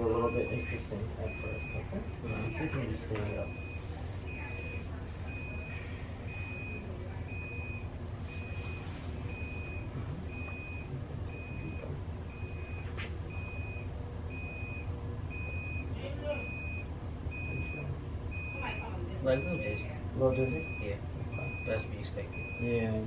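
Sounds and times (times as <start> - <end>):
high alarm beeping: 0.0 - 23.0
steady low hum: 0.0 - 23.0.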